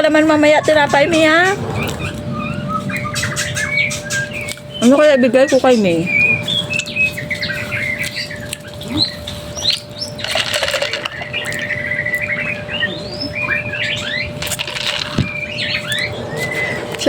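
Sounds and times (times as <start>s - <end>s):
faint steady hum: 0.0s - 17.0s
small birds chirping: 0.0s - 17.0s
wings fluttering: 0.7s - 17.0s.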